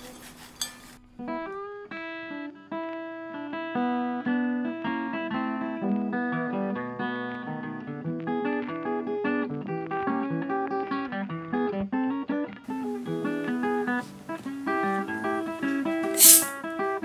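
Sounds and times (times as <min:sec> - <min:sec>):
acoustic guitar picking melody: 0:00.0 - 0:17.0.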